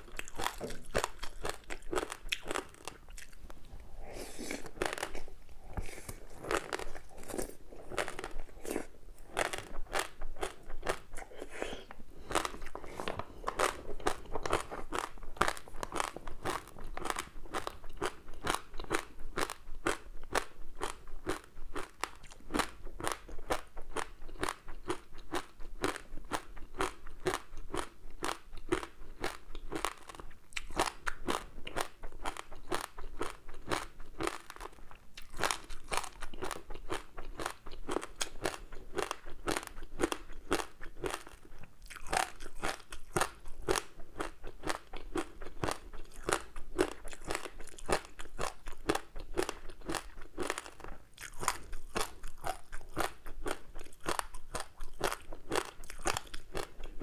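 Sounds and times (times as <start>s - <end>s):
crispy snack crunching: 0.0s - 3.6s, 4.2s - 57.0s.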